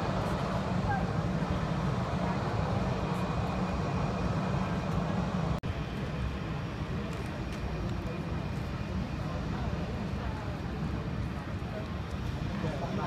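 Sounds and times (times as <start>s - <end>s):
airfield rumble and hiss: 0.0s - 13.0s.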